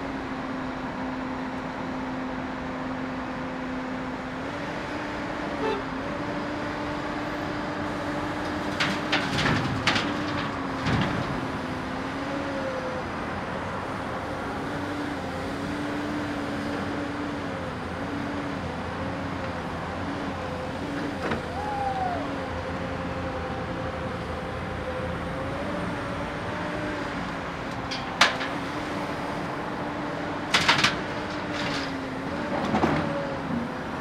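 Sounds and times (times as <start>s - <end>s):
excavator engine running: 4.1s - 34.0s.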